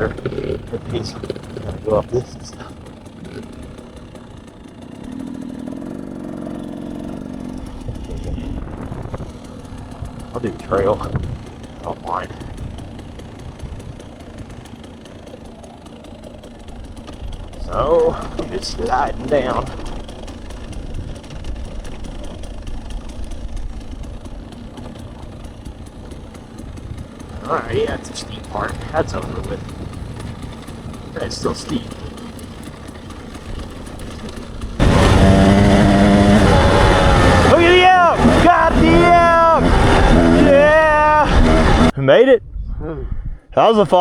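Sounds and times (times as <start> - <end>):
dirt bike engine under load: 0.0 - 42.0.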